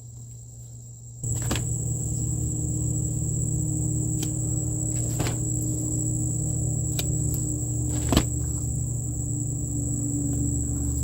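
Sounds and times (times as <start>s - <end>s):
high thin insect trill: 0.0s - 11.0s
low mechanical hum: 0.0s - 11.0s.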